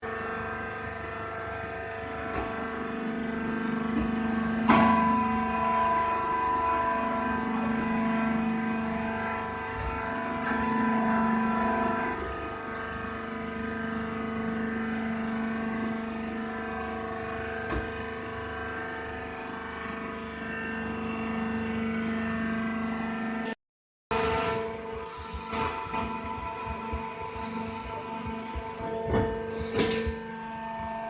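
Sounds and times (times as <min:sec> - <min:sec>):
hydraulic baler motor humming: 0:00.0 - 0:23.5, 0:24.1 - 0:31.0.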